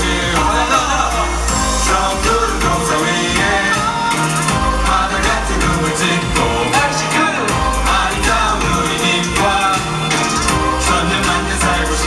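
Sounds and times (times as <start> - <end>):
heavy bass beat: 0.0 - 12.0
male voices singing: 0.0 - 12.0
upbeat dance pop track: 0.0 - 12.0.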